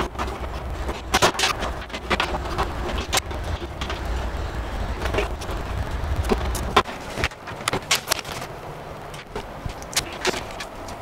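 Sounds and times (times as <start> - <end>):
network cables clicking and rattling: 0.0 - 11.0
steady low rumble: 0.0 - 11.0.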